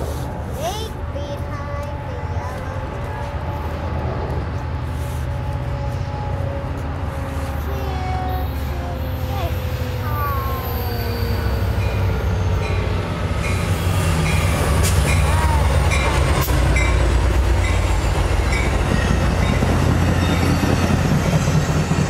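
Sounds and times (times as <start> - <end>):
diesel locomotive rumbling past: 0.0 - 22.0
train wheel and rail noise: 0.0 - 22.0.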